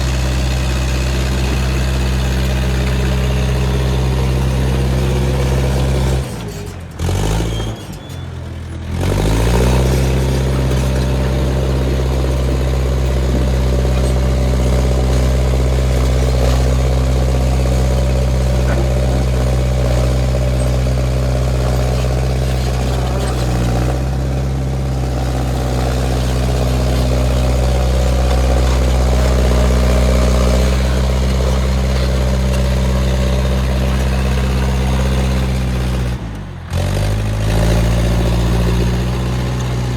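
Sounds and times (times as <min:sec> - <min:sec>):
crawler loader engine running: 0:00.0 - 0:39.9.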